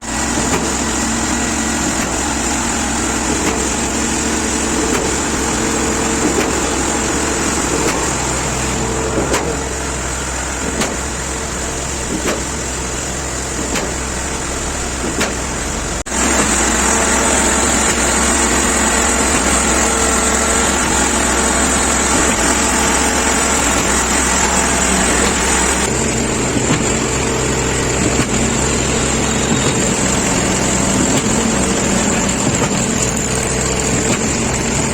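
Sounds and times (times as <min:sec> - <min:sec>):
concrete mixer engine running: 0:00.0 - 0:34.9.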